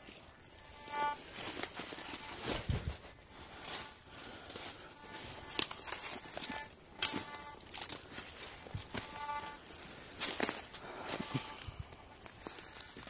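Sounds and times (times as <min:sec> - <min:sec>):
footsteps crunching through dry leaves: 0:00.0 - 0:13.0
metal detector buzzing tones: 0:00.4 - 0:02.6, 0:03.2 - 0:11.9.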